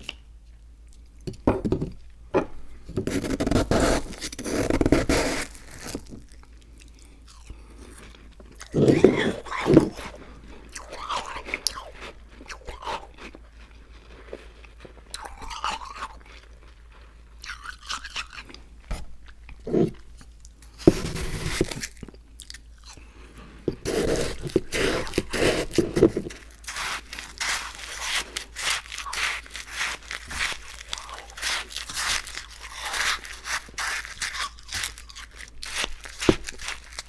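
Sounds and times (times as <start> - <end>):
crunching and chewing ice slush: 3.0 - 37.0.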